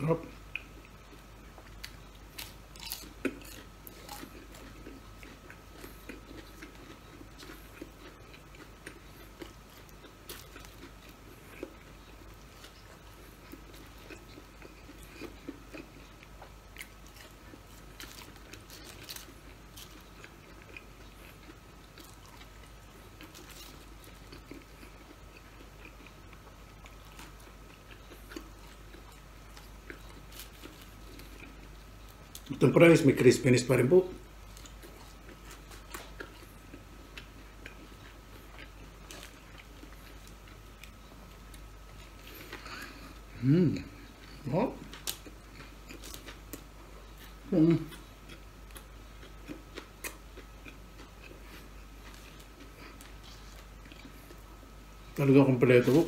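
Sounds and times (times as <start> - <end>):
person chewing food: 0.2 - 32.6, 34.1 - 55.2.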